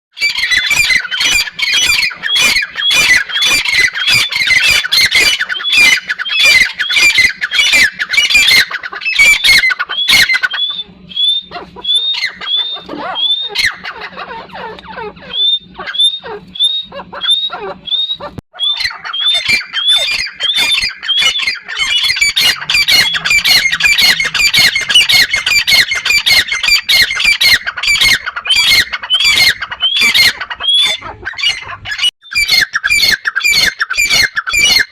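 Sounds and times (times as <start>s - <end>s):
francolin calling: 0.2s - 34.8s.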